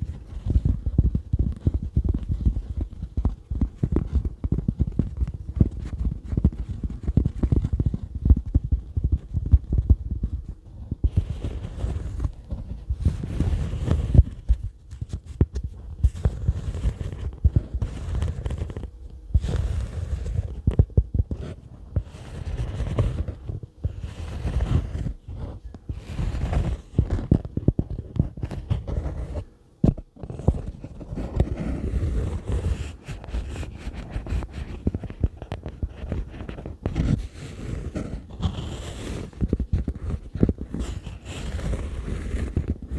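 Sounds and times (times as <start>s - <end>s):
scratchy noise: 3.8s - 42.9s.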